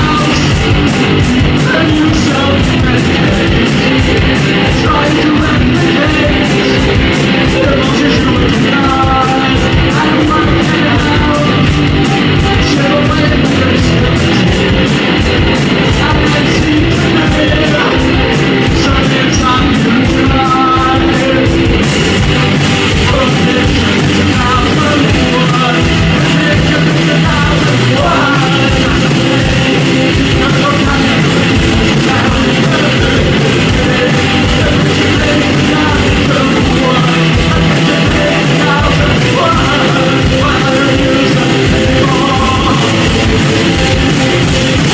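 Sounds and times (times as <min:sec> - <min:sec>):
distorted electric guitar: 0:00.0 - 0:44.9
driving drum beat: 0:00.0 - 0:44.9.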